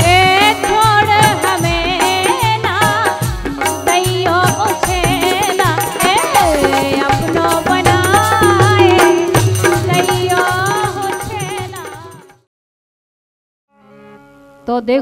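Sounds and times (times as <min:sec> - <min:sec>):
drum and rattle percussion: 0:00.0 - 0:12.5.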